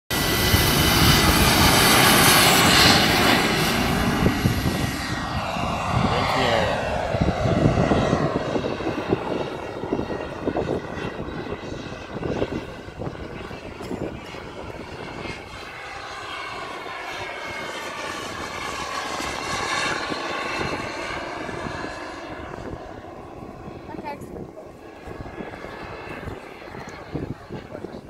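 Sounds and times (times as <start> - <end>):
model jet engine at full power: 0.1 - 28.0.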